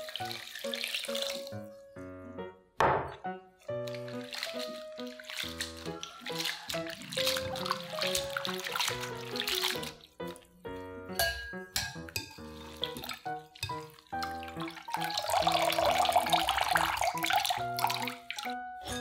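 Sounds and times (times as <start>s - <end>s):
tap water running: 0.0s - 1.7s, 3.5s - 19.0s
piano background music: 0.0s - 19.0s.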